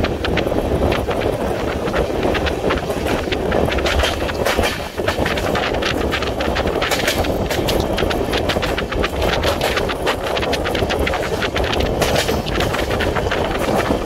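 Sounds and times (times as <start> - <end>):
wheels rumbling on rails: 0.0 - 14.0.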